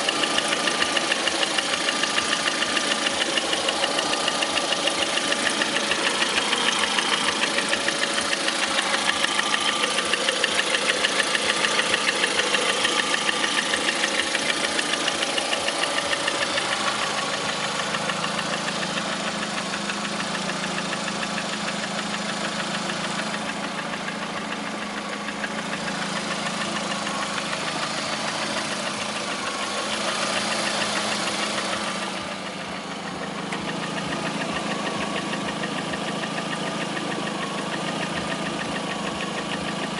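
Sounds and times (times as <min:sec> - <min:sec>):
car engine idling: 0:00.0 - 0:39.9
fast regular engine knocking: 0:00.0 - 0:39.9.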